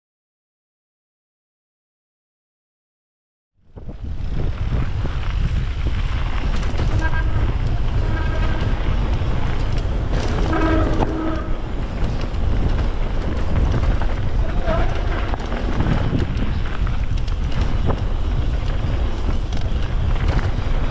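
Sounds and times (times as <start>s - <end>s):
bike tyres on ground: 3.6s - 20.9s
wind on microphone: 3.6s - 20.9s.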